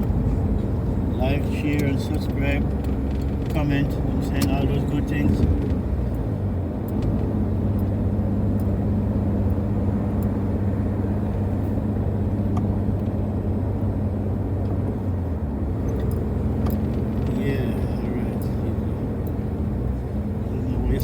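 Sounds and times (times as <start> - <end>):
car engine and road hum: 0.0 - 21.0.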